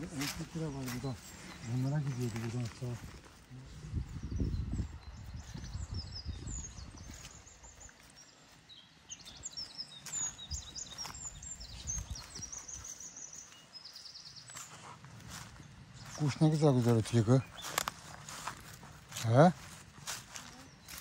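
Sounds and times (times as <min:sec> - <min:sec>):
footsteps through grass: 0:00.0 - 0:21.0
songbird singing: 0:00.0 - 0:21.0.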